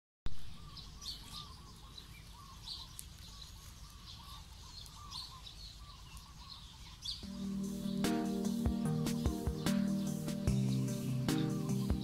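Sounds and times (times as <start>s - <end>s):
ducklings peeping: 0.3s - 12.0s.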